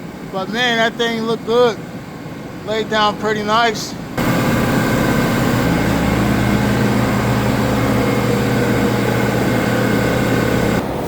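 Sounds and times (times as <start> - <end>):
machine humming with rushing noise: 0.0 - 11.0.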